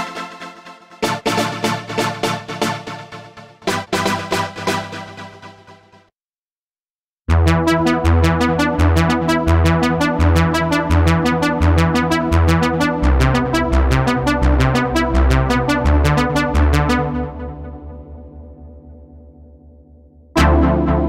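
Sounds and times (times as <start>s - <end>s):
synthesizer lead with pulsing bass: 0.0s - 6.0s, 7.3s - 19.6s, 20.4s - 21.0s.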